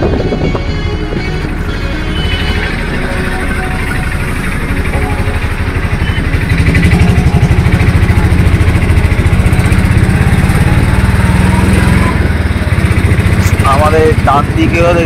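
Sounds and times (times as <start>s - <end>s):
vehicle engine throbbing: 0.0s - 15.0s.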